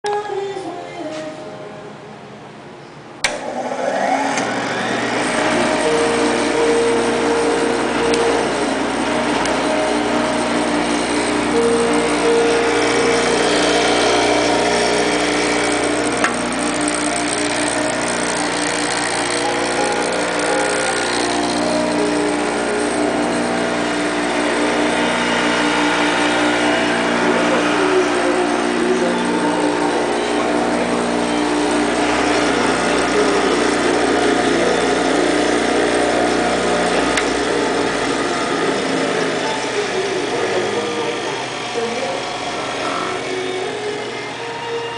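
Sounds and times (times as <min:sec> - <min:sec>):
edger motor hum: 0:03.2 - 0:44.9.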